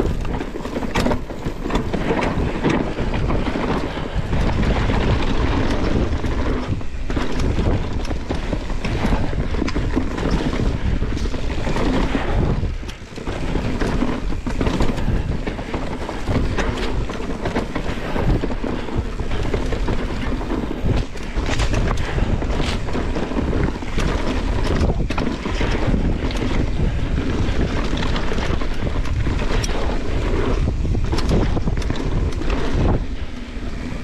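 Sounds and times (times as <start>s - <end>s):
bike clicking and rattling over bumps: 0.0s - 34.0s
bike tyres rolling on dirt trail: 0.0s - 34.0s
wind rushing over microphone: 0.0s - 34.0s.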